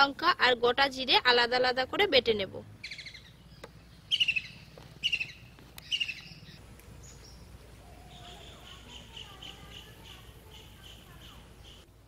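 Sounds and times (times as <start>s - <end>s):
birds chirping: 2.0s - 12.0s.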